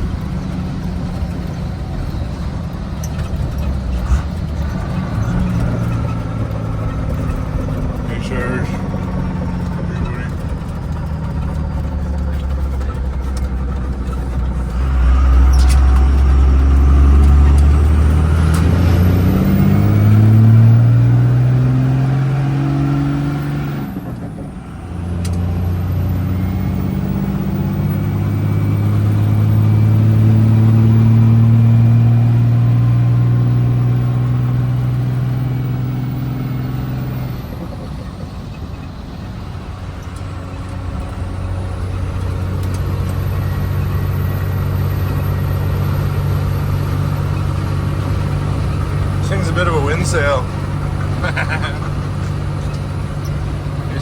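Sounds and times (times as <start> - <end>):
vehicle engine accelerating: 0.0 - 54.0.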